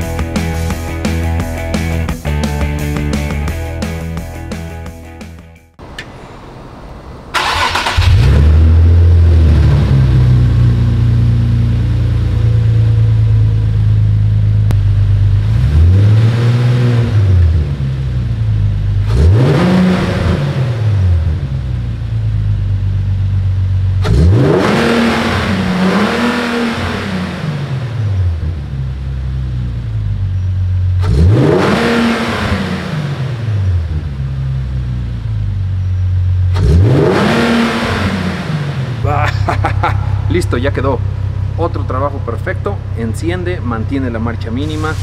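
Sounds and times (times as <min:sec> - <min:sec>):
car engine starting and revving: 0:05.3 - 0:45.0.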